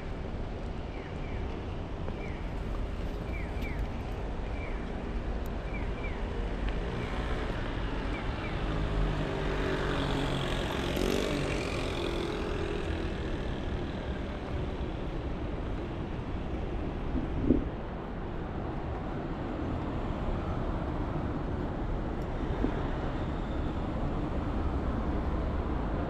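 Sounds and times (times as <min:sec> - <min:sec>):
steady traffic hum: 0:00.0 - 0:26.0.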